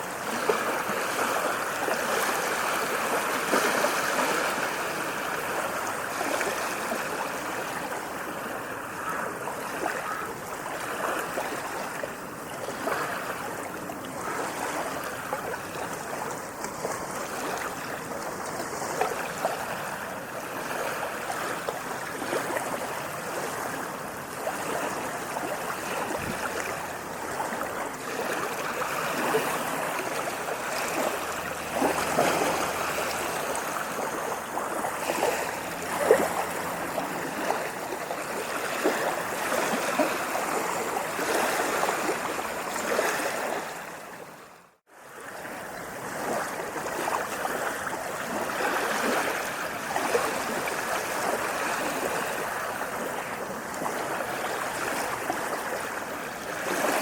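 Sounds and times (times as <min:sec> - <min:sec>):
small waves lapping: 0:00.0 - 0:57.0.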